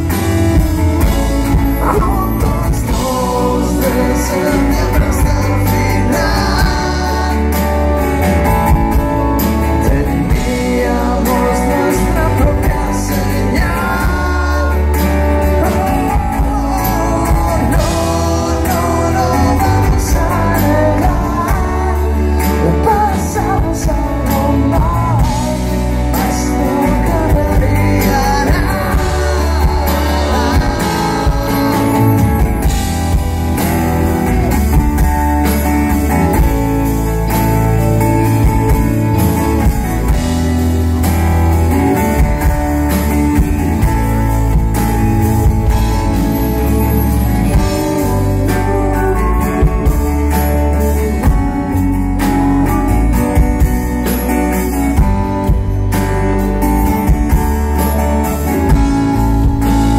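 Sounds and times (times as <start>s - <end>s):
live band music: 0.0s - 59.9s
person singing: 0.0s - 59.9s.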